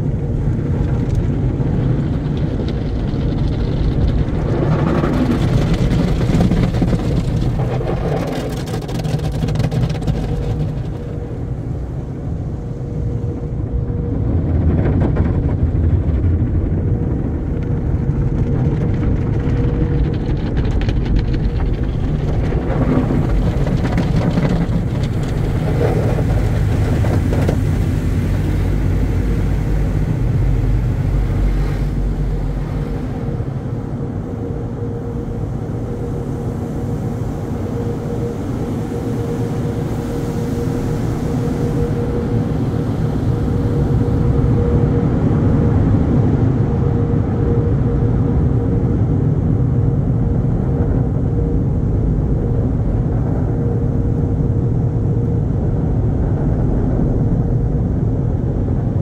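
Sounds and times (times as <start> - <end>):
constant hum: 0.0 - 59.0
drying blowers roaring: 0.0 - 59.0.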